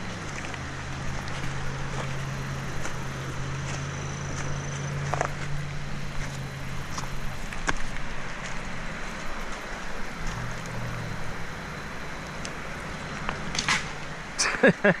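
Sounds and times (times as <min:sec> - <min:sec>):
distant motor droning hum: 0:00.0 - 0:14.9
steady rushing outdoor noise: 0:00.0 - 0:15.0.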